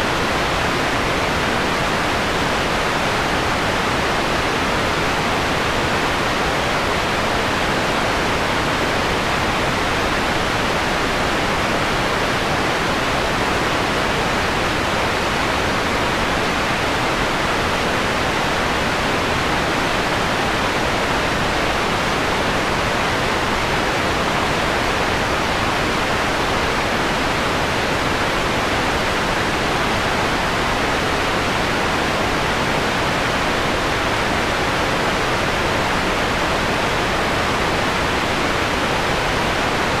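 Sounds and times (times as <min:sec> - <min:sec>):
filtered white noise: 0:00.0 - 0:40.0.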